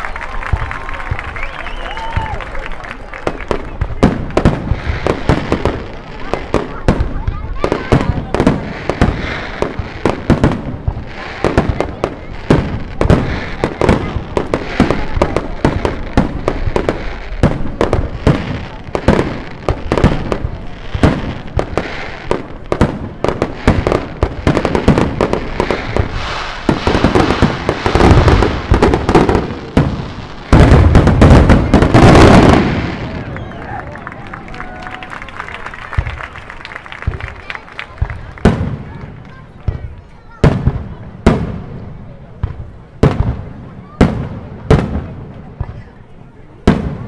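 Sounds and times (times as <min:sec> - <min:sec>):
fireworks bursts and bangs: 0:00.0 - 0:47.0.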